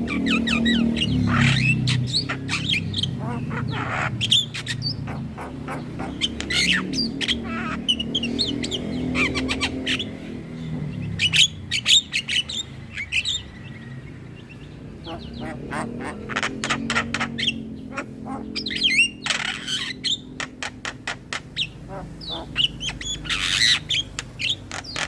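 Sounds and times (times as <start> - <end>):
birds chattering and squawking: 0.0 - 25.0.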